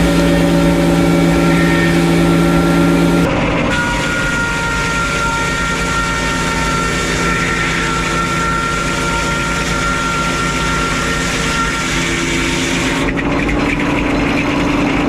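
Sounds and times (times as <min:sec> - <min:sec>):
circular sawmill whining: 0:00.0 - 0:15.0.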